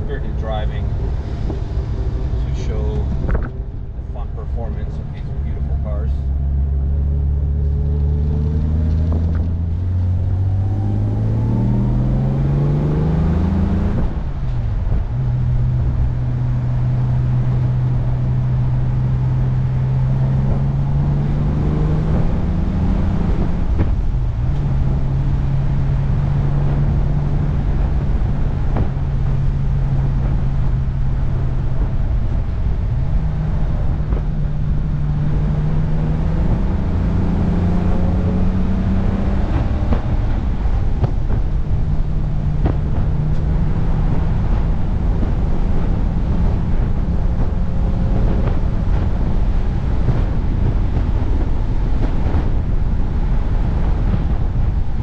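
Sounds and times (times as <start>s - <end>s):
car engine revving through gears: 0.0s - 55.0s
wind and road noise: 0.0s - 55.0s.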